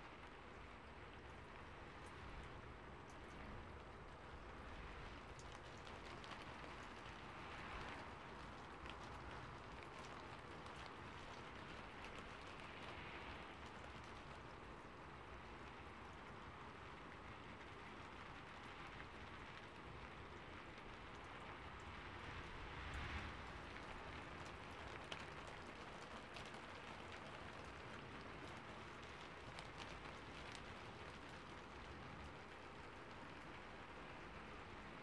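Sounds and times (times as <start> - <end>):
soft rain falling: 0.0 - 35.0.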